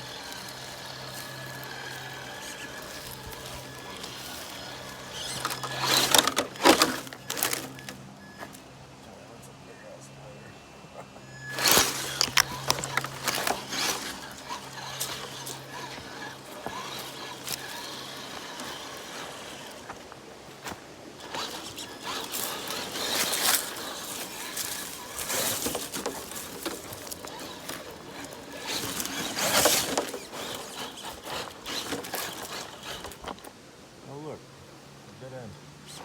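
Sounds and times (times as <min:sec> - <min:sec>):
toy truck tyres scraping on rocks: 0:00.0 - 0:08.6, 0:11.2 - 0:33.6.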